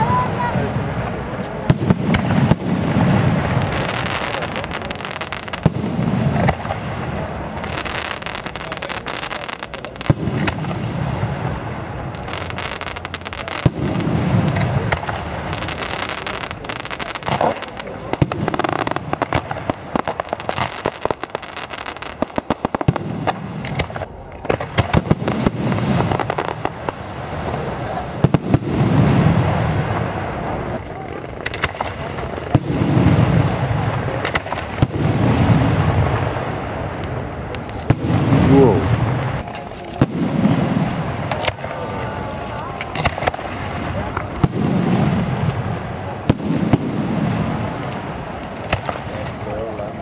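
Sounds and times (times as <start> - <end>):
firework shells booming: 0.0 - 50.0
fireworks crackling and popping: 0.0 - 50.0.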